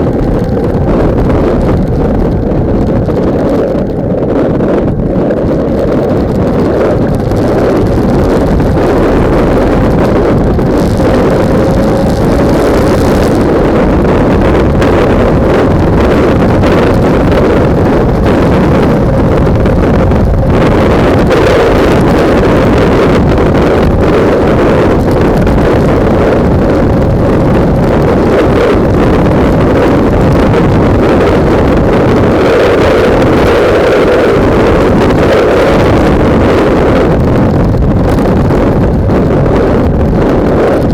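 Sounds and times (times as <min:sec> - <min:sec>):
faint motorcycle engine: 0:00.0 - 0:40.9
wind buffeting microphone: 0:00.0 - 0:40.9.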